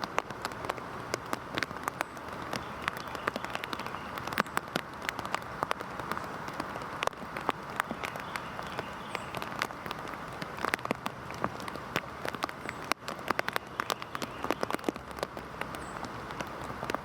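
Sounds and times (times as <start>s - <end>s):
heavy rain hiss: 0.0s - 17.0s
sharp drips: 0.0s - 17.0s.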